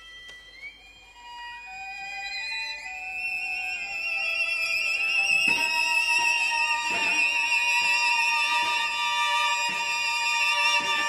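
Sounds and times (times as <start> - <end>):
string quartet bowed notes: 0.0 - 11.0.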